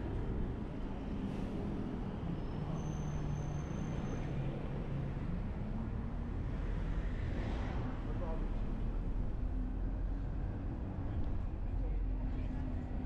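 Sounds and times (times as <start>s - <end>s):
road and traffic noise: 0.0s - 13.0s.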